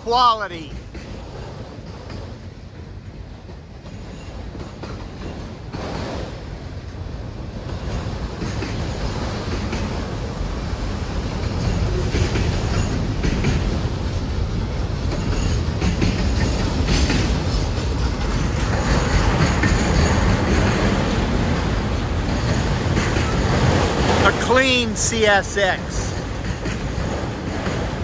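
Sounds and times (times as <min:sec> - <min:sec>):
freight wheels clacking over rail joints: 0:00.6 - 0:28.0.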